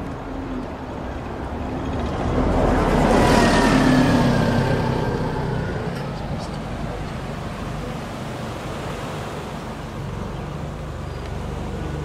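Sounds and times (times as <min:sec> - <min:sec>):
road vehicle passing: 0:00.0 - 0:12.0.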